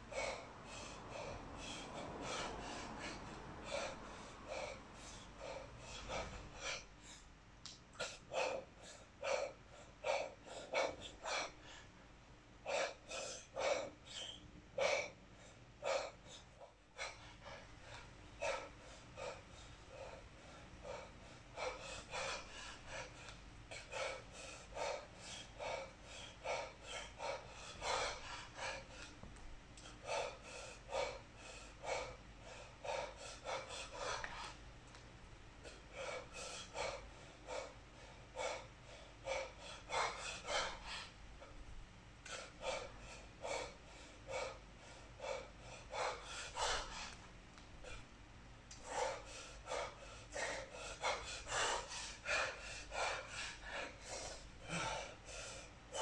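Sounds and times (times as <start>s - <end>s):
sharp rhythmic breathing: 0.0s - 56.0s.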